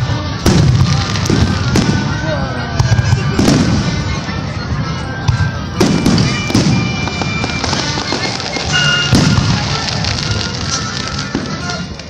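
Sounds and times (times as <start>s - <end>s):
firework crackling: 0.0s - 12.0s
firework shells booming: 0.4s - 4.2s, 5.2s - 12.0s.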